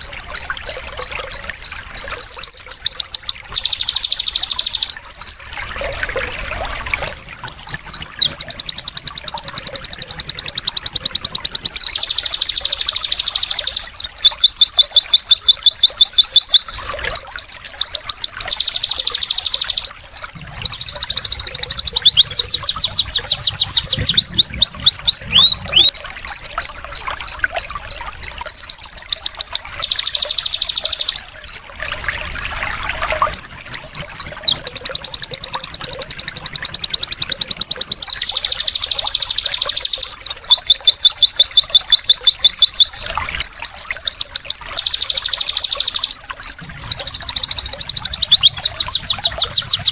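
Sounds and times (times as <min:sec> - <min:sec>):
bird song high trills: 0:00.0 - 0:49.9
water trickling: 0:00.0 - 0:49.9.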